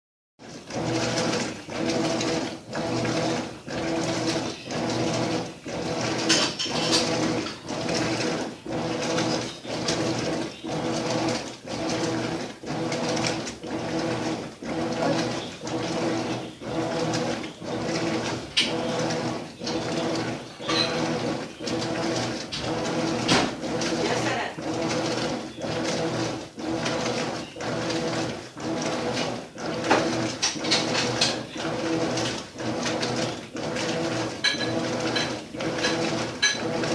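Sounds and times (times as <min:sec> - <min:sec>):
washing machine agitating: 0:00.4 - 0:36.9.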